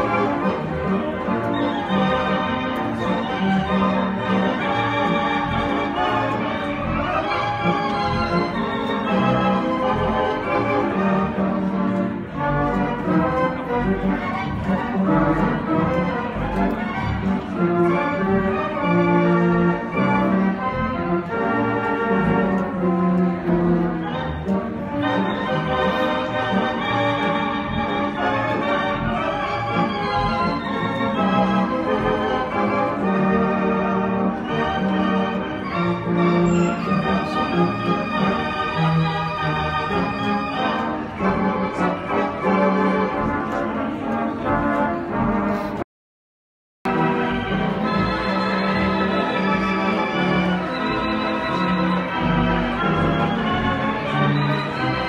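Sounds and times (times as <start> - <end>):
pipe organ playing sustained chords: 0.0 - 45.4, 46.9 - 55.0.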